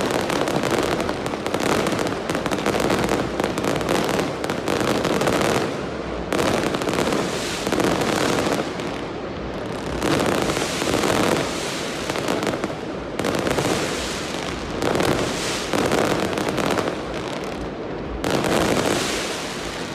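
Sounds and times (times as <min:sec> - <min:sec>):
fireworks crackling: 0:00.0 - 0:19.9.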